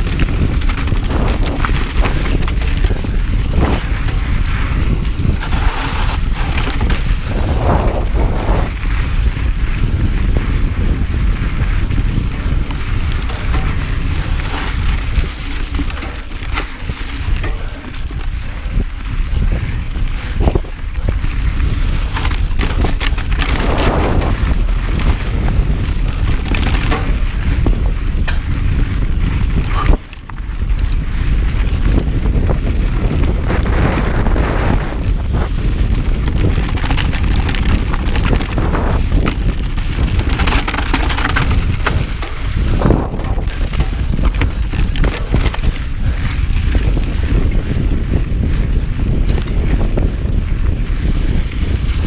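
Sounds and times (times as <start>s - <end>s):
tyres crunching on dirt: 0.0s - 50.4s
bike clicking and rattling: 0.0s - 52.0s
wind rumble on microphone: 0.0s - 52.0s.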